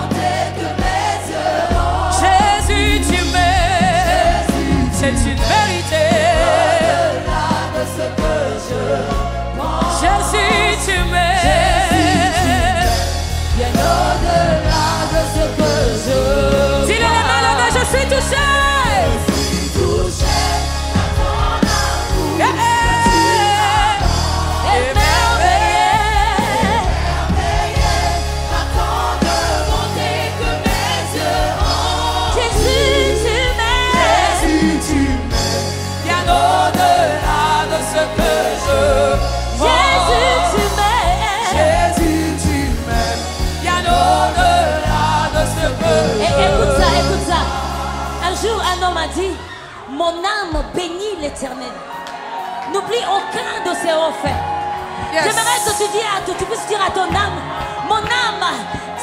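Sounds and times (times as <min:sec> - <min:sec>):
band with sustained bass: 0:00.0 - 0:49.5
singers with vibrato: 0:00.0 - 0:51.9.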